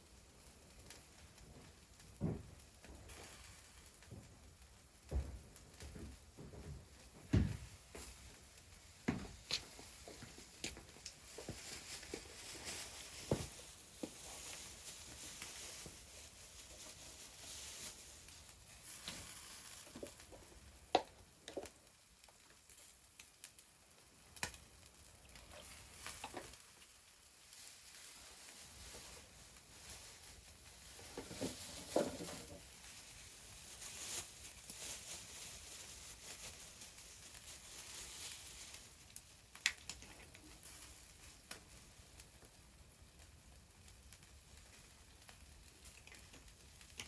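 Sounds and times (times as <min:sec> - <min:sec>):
faint steady hiss: 0:00.0 - 0:47.0.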